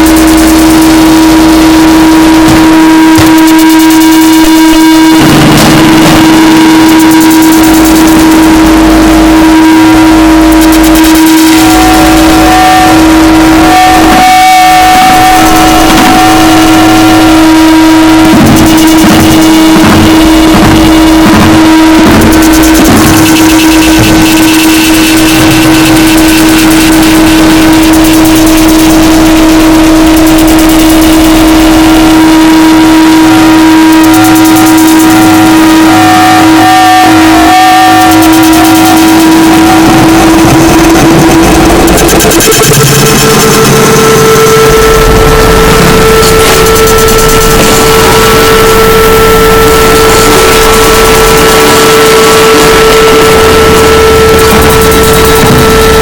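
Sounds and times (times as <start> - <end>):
distorted wall of noise: 0.0 - 56.0
higher tone: 0.0 - 56.0
steady droning tone: 0.0 - 56.0.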